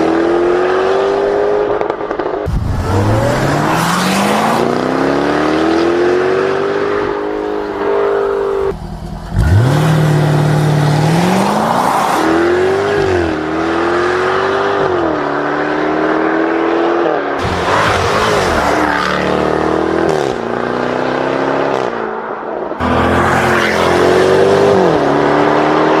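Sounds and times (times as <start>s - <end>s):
car engine accelerating hard: 0.0s - 22.2s, 22.8s - 26.0s.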